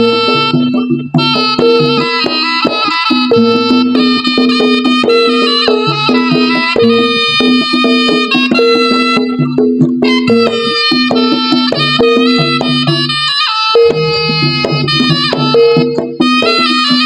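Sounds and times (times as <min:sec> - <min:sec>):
reedy melody: 0:00.0 - 0:17.0
struck percussion: 0:00.0 - 0:17.0.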